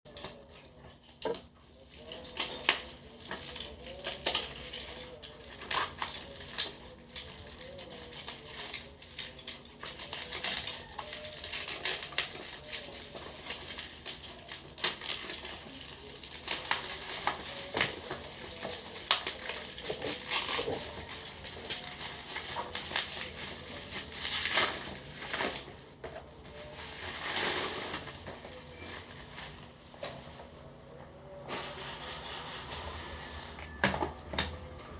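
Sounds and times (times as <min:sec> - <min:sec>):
packaging rustling and crinkling: 0:00.1 - 0:30.7.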